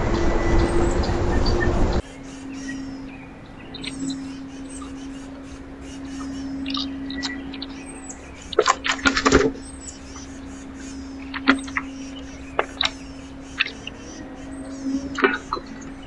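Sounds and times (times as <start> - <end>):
faint high bird chirps: 0.0 - 16.0
steady low hum: 0.0 - 16.0
birds tapping at a feeder: 2.1 - 16.0.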